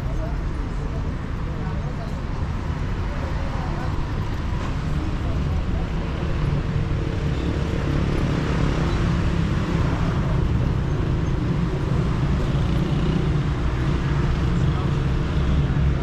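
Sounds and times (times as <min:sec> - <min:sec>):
low hum of road traffic: 0:00.0 - 0:16.0.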